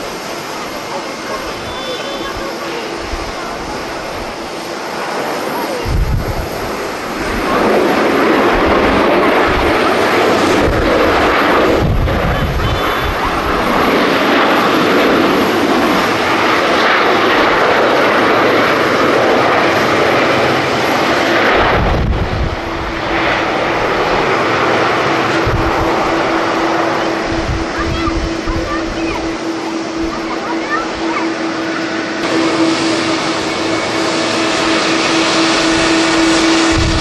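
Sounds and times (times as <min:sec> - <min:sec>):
jet engines roaring: 0:00.0 - 0:37.0
wind buffeting microphone: 0:00.0 - 0:37.0.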